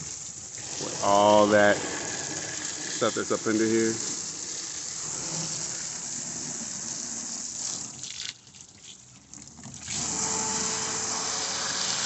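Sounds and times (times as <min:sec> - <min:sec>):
hose water splashing: 0:00.0 - 0:12.0.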